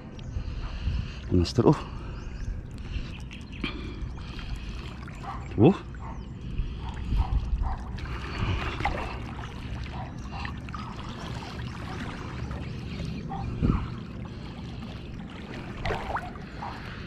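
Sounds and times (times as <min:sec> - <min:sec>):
low wind rumble on microphone: 0:00.0 - 0:17.0
water dripping and sloshing: 0:02.7 - 0:17.0.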